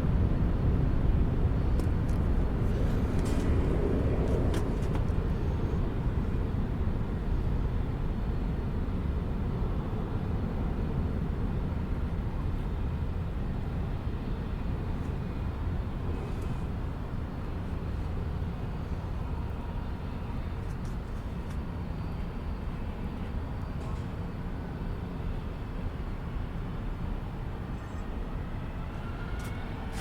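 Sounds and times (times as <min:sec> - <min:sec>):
jet engines at takeoff thrust: 0:00.0 - 0:30.0.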